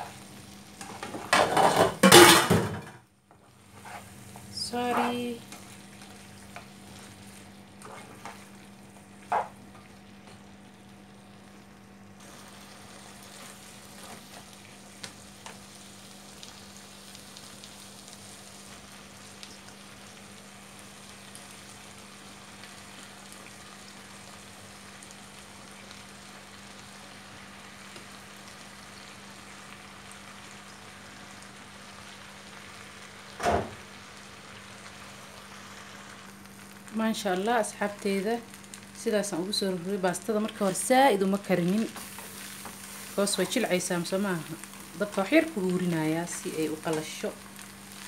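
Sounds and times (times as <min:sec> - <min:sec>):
food sizzling in a frying pan: 0:00.0 - 0:48.0.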